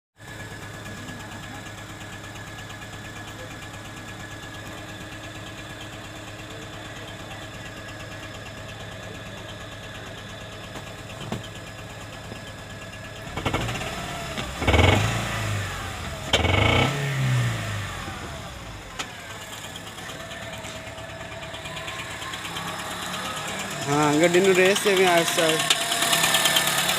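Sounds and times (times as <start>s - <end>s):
car engine idling and revving: 0.2s - 26.9s.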